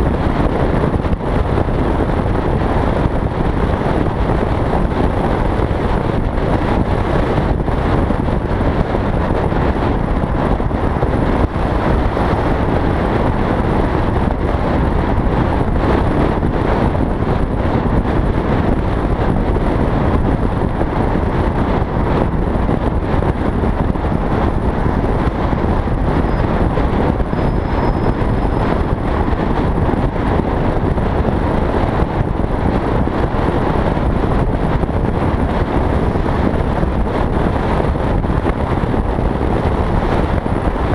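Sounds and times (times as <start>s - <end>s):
motorcycle engine running: 0.0s - 40.9s
wind buffeting a camera: 0.0s - 40.9s.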